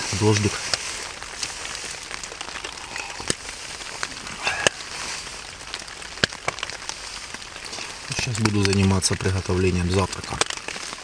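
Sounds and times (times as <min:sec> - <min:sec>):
raindrops ticking on fabric: 0:00.0 - 0:11.0.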